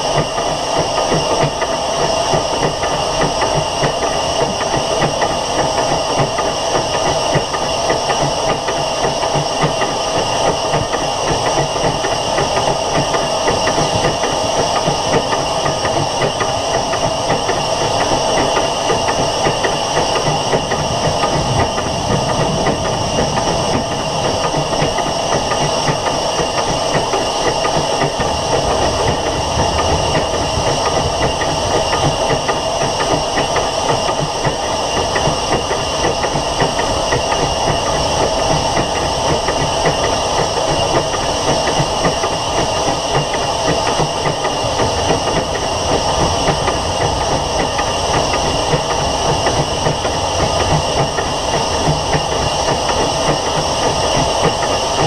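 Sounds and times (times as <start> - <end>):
steam hiss: 0.0 - 55.0
wheel-on-rail clatter: 0.0 - 55.0.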